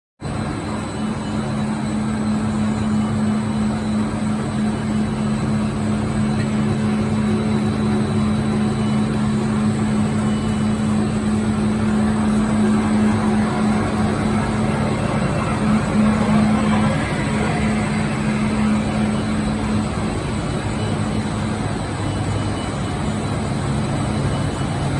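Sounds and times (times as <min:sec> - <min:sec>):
textile machine humming: 0:00.2 - 0:24.9.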